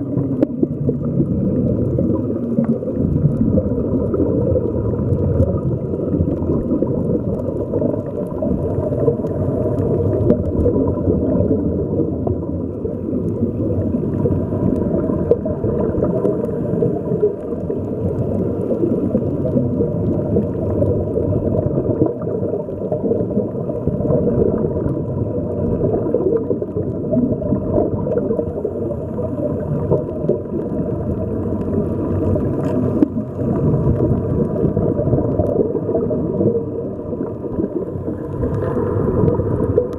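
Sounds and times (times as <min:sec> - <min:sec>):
gurgling air bubbles: 0:00.0 - 0:39.9
muffled underwater rumble: 0:00.0 - 0:39.9.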